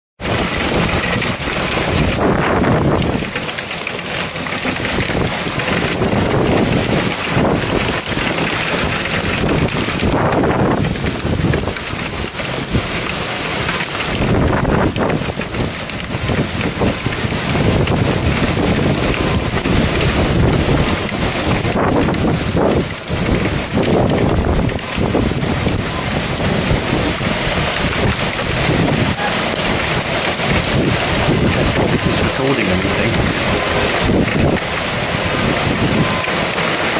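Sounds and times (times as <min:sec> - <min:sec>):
heavy rain and hail: 0:00.2 - 0:36.9
wind buffeting microphone: 0:00.2 - 0:36.9.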